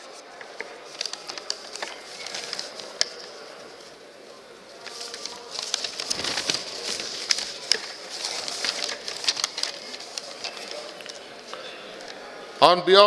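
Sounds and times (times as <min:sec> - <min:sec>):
paper rustling and crackling: 0:00.1 - 0:04.0, 0:04.7 - 0:12.2.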